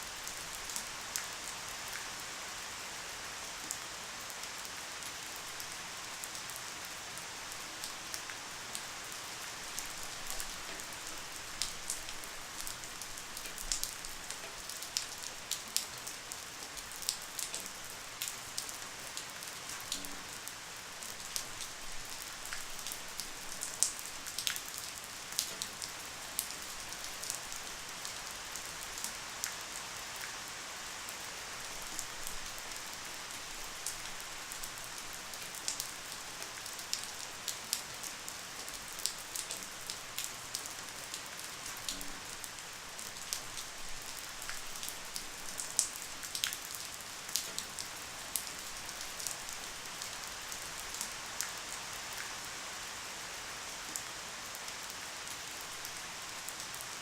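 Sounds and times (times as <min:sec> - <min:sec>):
light rain: 0:00.0 - 0:57.0.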